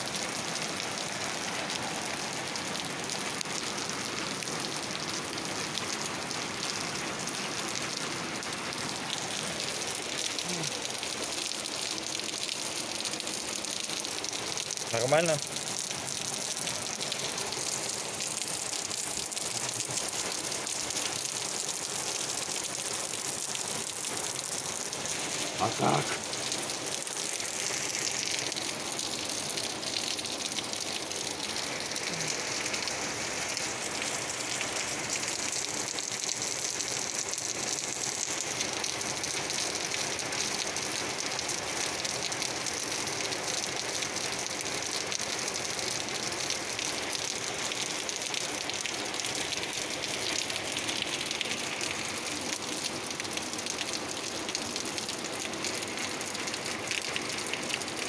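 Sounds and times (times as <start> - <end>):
heavy rain pouring on asphalt: 0.0 - 58.0.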